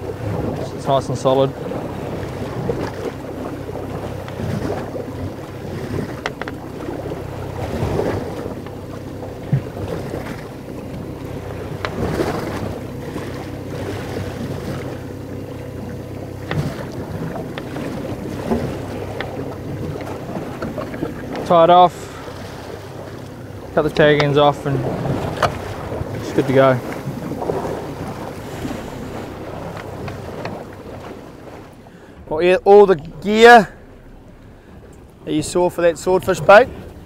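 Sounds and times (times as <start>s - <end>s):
steady low hum: 0.0s - 37.0s
water washing against hull: 0.0s - 37.0s
wind buffeting microphone: 0.0s - 37.0s.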